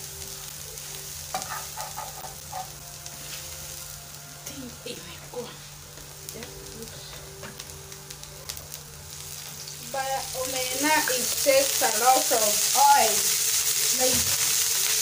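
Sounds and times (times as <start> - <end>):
fish frying in a pan: 0.0 - 15.0.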